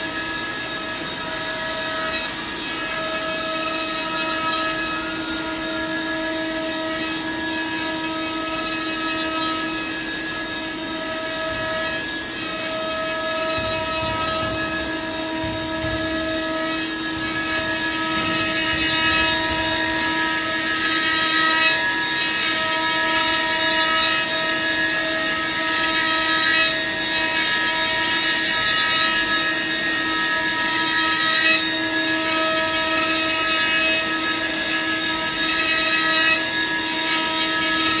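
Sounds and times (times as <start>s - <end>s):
woodworking machine motor whine: 0.0s - 38.0s.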